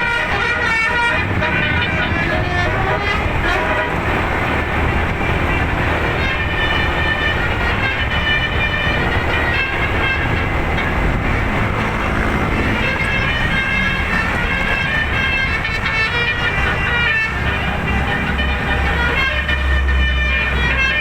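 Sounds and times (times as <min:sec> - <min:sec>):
musical air horn tooting: 0:00.0 - 0:21.0.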